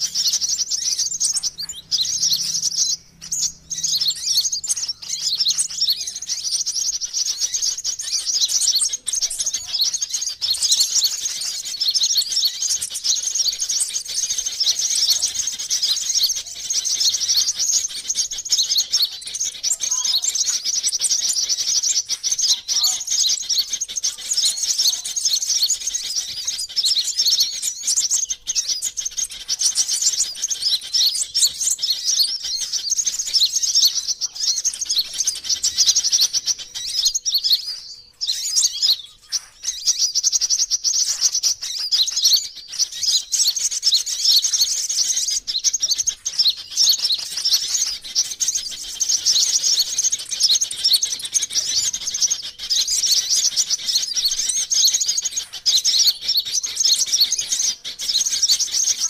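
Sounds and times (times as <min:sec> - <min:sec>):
bird chirping and twittering: 0:00.0 - 0:59.0.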